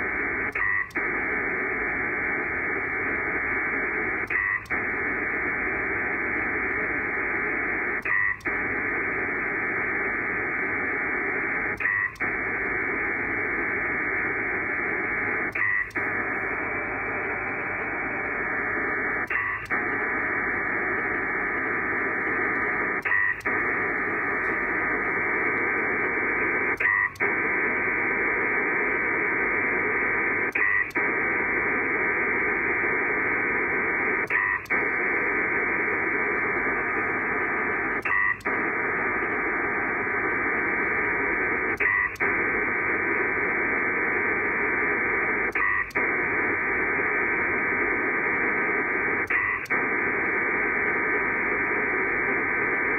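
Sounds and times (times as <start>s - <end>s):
dense radio data hiss: 0.0s - 52.9s.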